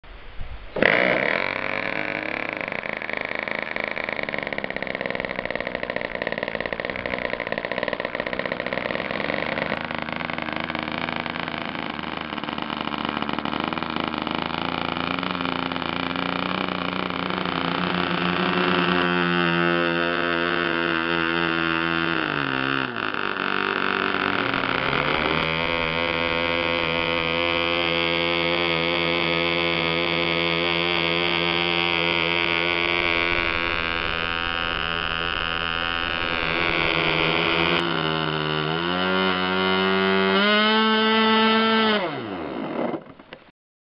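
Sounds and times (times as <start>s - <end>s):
model plane engine running: 0.8s - 43.5s.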